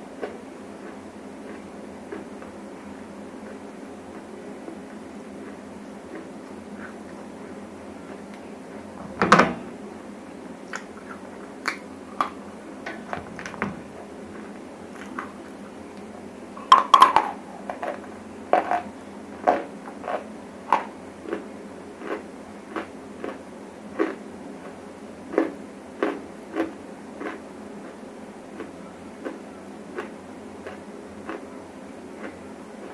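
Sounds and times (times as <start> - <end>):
crunchy chewing of dry clay: 0.0 - 9.0, 10.6 - 13.2, 13.9 - 32.9
faint steady hum: 0.0 - 32.9.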